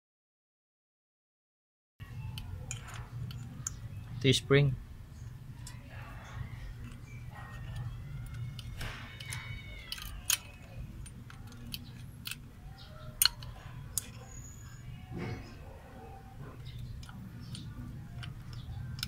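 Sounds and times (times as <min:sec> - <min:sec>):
low steady hum: 0:02.0 - 0:19.0.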